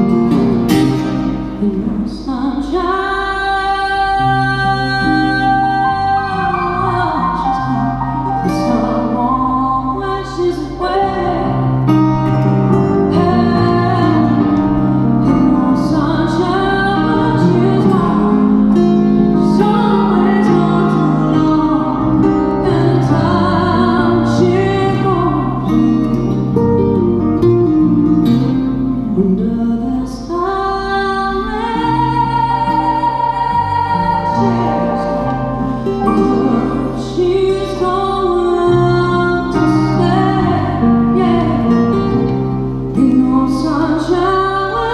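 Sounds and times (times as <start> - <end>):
plucked guitar: 0.0 - 44.9.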